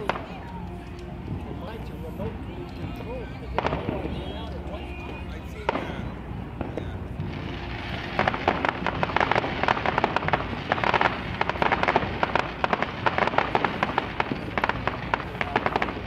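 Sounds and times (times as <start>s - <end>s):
fireworks crackling pops: 0.0s - 16.0s.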